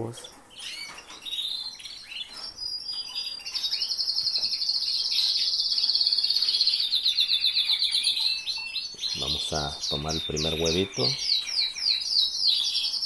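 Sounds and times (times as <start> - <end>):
canary chirps: 0.0 - 13.0
canary singing fast trill: 0.0 - 13.0.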